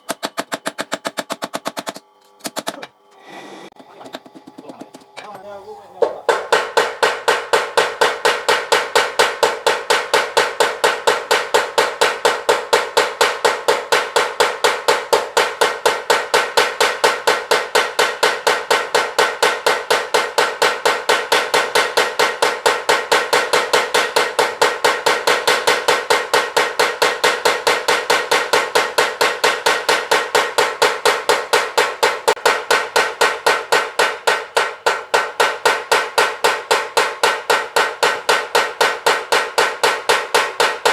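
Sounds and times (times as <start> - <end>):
power hammer pounding steel: 0.0 - 2.9, 3.7 - 40.9.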